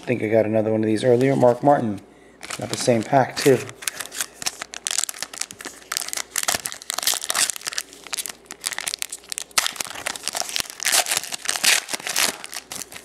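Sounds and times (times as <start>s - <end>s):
plastic wrapper crinkling: 2.4s - 13.0s.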